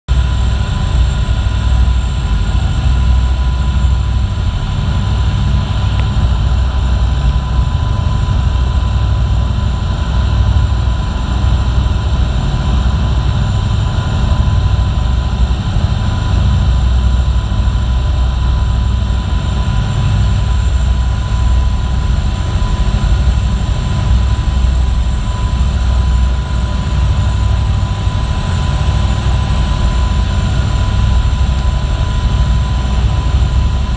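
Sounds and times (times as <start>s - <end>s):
thin steady whine: 0.1s - 33.9s.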